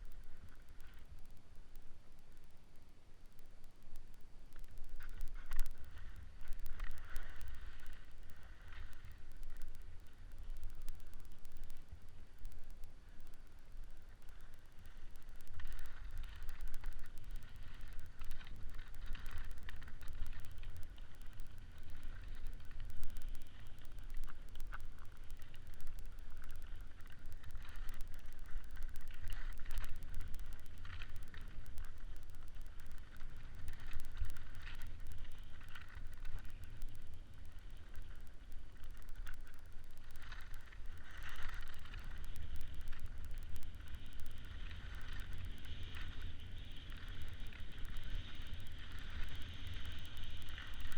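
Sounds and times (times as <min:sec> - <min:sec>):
wind rumbling on microphone: 0:03.9 - 0:50.9.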